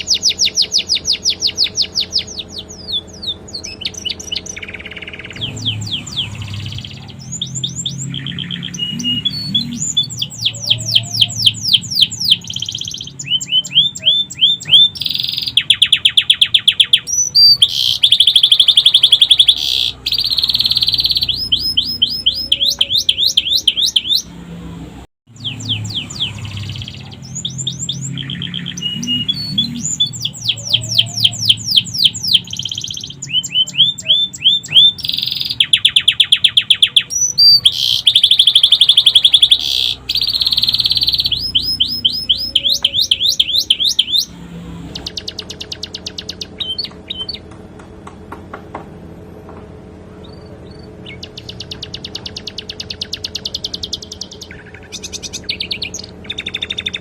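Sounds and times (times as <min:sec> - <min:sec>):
canary singing: 0:00.0 - 0:48.3, 0:49.9 - 0:57.0.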